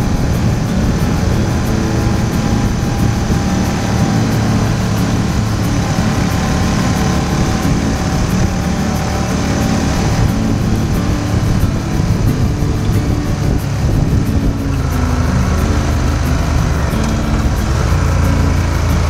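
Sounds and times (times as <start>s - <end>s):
motorcycle engine running: 0.0s - 19.0s
wind noise: 0.0s - 19.0s.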